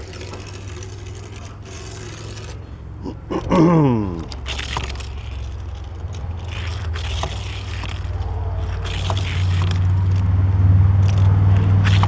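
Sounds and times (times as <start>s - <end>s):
toy car clicks and scrapes: 0.0s - 2.7s, 4.1s - 10.3s, 10.9s - 12.0s.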